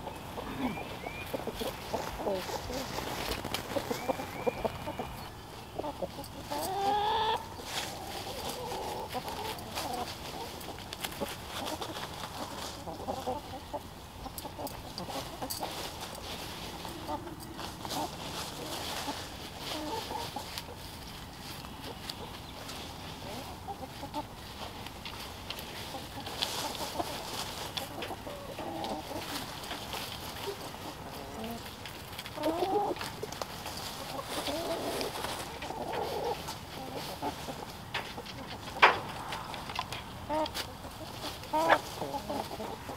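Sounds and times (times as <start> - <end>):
hens clucking softly: 0.0 - 42.9
rustling in dry leaves: 0.0 - 42.9.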